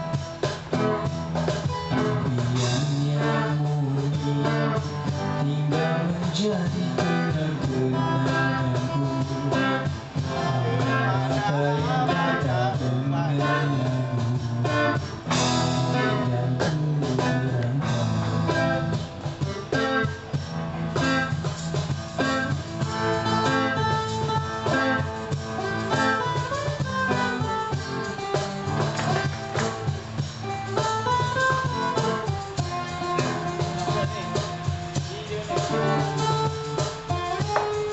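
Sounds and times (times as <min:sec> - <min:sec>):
guitar picked and strummed: 0:00.0 - 0:37.9.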